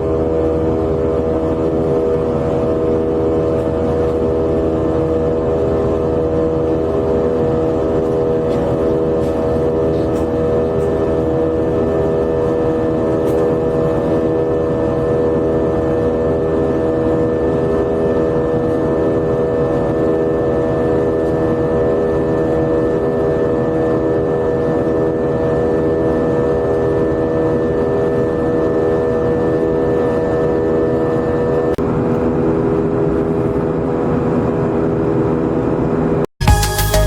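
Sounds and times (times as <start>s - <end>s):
jet engines droning in cabin: 0.0s - 36.3s.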